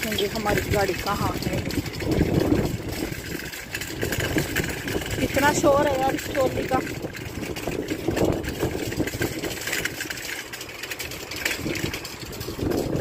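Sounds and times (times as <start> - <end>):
shopping trolley rattling on asphalt: 0.0 - 13.0.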